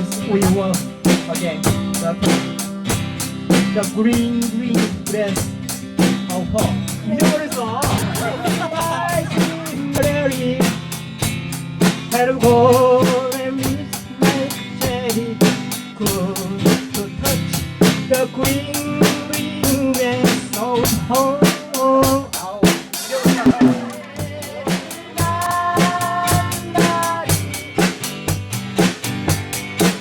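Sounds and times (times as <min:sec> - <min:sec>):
music with drum beat and melody: 0:00.0 - 0:30.0.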